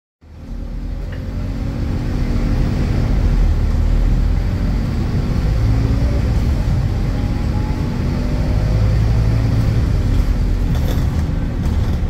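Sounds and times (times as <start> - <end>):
bus diesel engine drone: 0.2 - 12.0.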